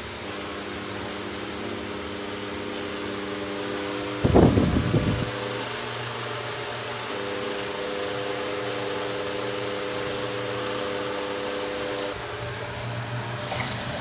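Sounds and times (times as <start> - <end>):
microwave oven humming: 0.0 - 14.0
wall fan whirring: 0.0 - 14.0.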